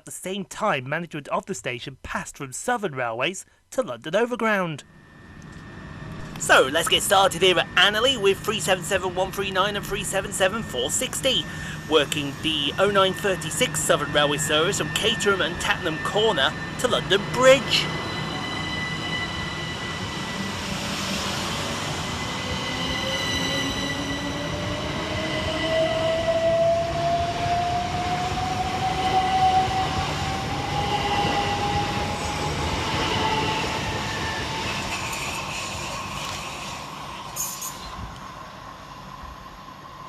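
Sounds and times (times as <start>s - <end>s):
electric train motor whine: 4.9s - 39.6s.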